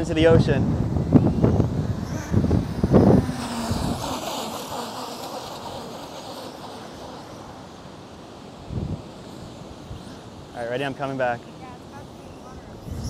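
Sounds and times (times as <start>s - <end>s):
wind buffeting microphone: 0.0s - 7.9s, 8.5s - 10.6s, 11.6s - 13.0s.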